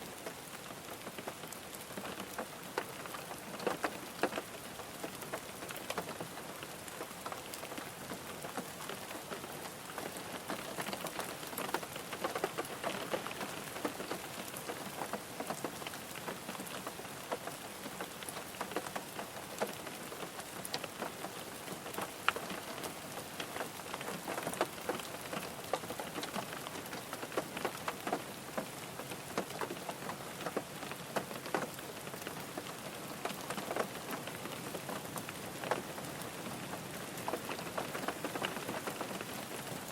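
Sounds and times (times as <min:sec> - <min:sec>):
rain drumming on car roof: 0:00.1 - 0:39.9.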